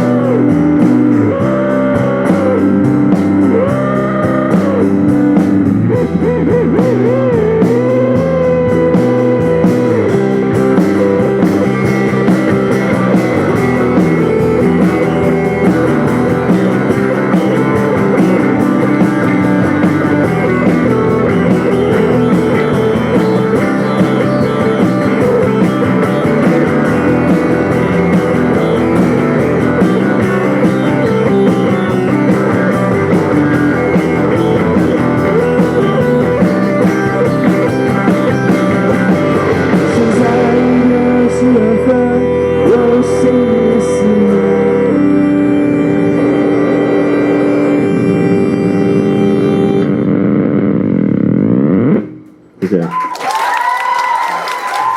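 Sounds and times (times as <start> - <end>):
live rock band with electric guitars: 0.0 - 53.0.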